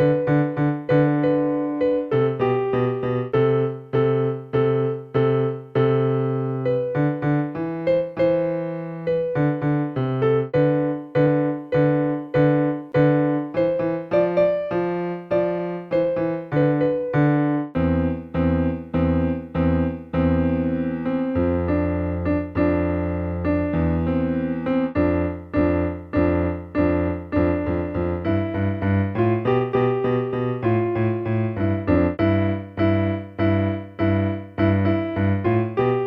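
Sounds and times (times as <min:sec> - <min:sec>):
electronic keyboard melody: 0:00.0 - 0:36.0.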